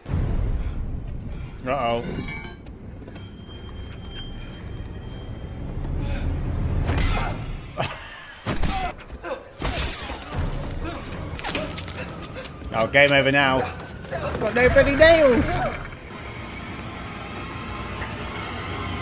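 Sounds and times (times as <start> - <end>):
tense music: 0.0 - 19.0.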